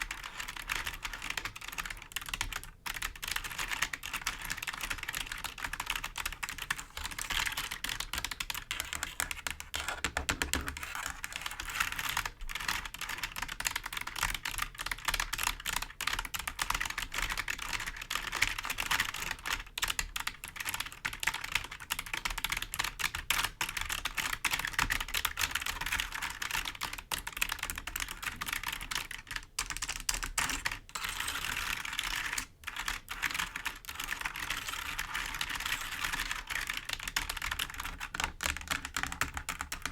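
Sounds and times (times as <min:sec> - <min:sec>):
typing on keyboard keys: 0:00.0 - 0:39.9.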